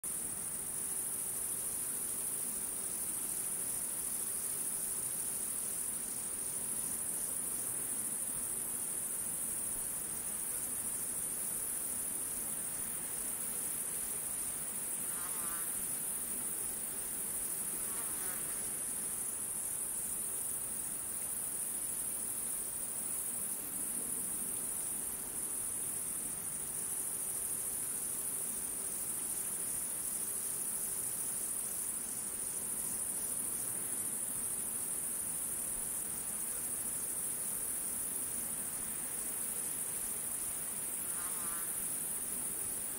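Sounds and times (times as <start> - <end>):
insect chorus trilling: 0.0 - 42.9.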